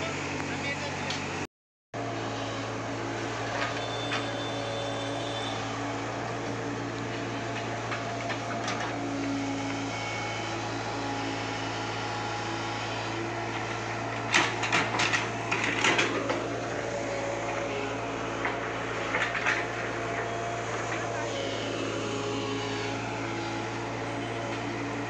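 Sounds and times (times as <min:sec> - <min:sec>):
excavator diesel engine humming: 0:00.0 - 0:01.4, 0:02.0 - 0:25.0.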